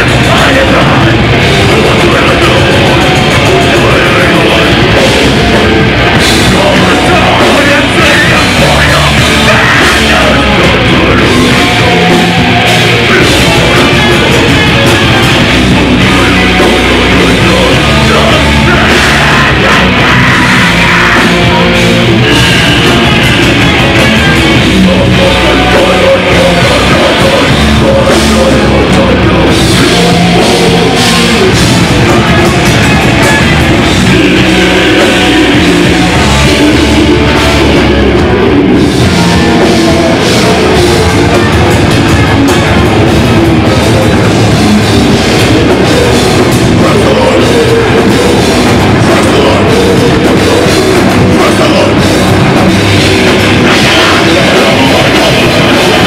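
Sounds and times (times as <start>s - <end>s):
live heavy metal band playing: 0.0s - 56.0s.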